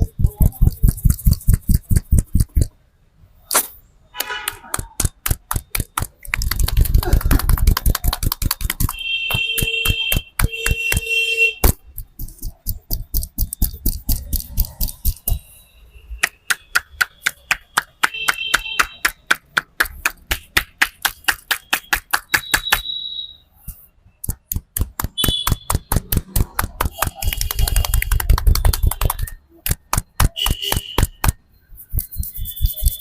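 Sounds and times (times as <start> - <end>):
rhythmic hand slaps on head: 0.0 - 2.8, 4.5 - 15.4, 16.2 - 22.9, 24.2 - 33.0.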